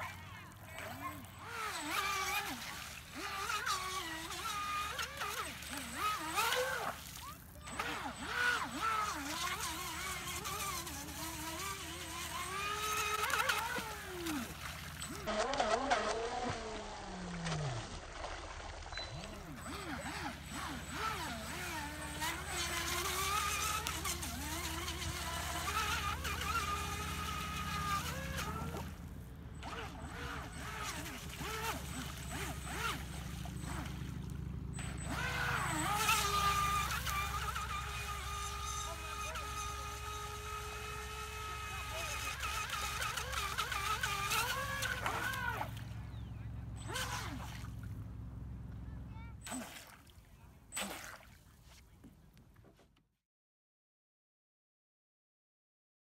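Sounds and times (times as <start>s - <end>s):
electric motor whining: 0.0s - 17.8s, 19.0s - 48.0s.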